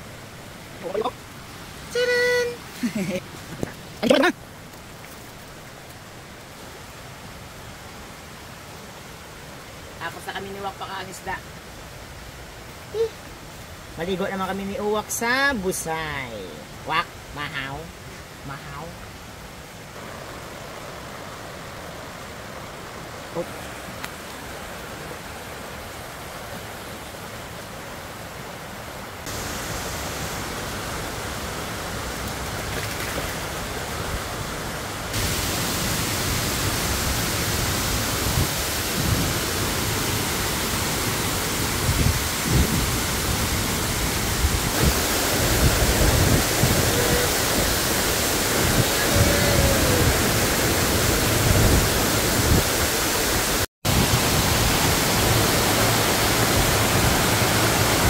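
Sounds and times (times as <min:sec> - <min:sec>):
stream and waterfall rushing: 0:00.0 - 0:58.0.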